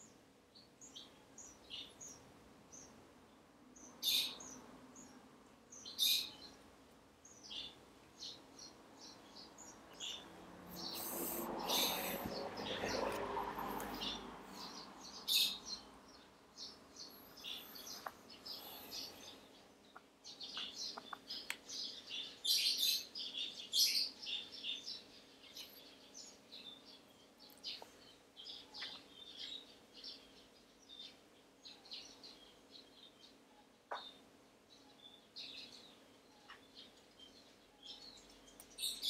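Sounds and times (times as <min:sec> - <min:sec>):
birds chirping: 0:00.0 - 0:39.0
faint steady hum: 0:00.0 - 0:39.0.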